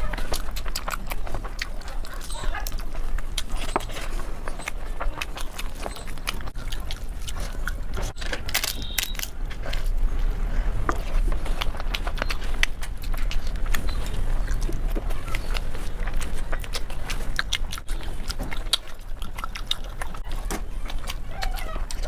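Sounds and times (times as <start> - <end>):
low hum: 0.0 - 22.0
mouth clicks and crunches: 0.0 - 22.0
wet chewing: 0.0 - 22.0.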